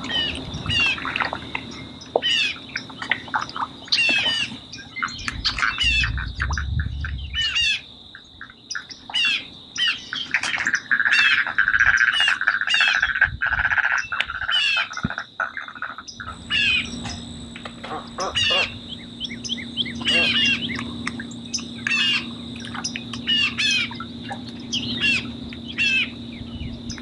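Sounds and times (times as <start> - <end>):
wetland birds squawking: 0.0 - 17.1, 17.8 - 27.0
trilling bird chatter: 0.0 - 27.0.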